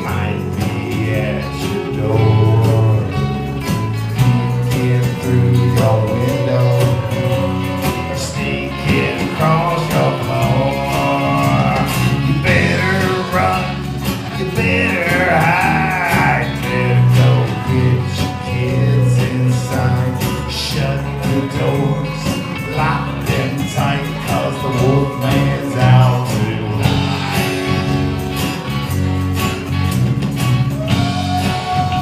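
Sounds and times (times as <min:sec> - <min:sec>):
electric guitar lead with bending notes: 0:00.0 - 0:32.0
rock band playing: 0:00.0 - 0:32.0.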